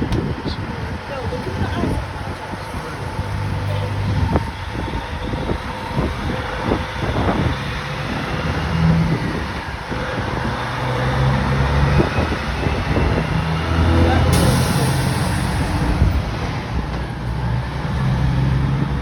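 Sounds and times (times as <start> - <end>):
vehicle engine revving unevenly: 0.1 - 19.0
deep engine drone: 1.6 - 19.0.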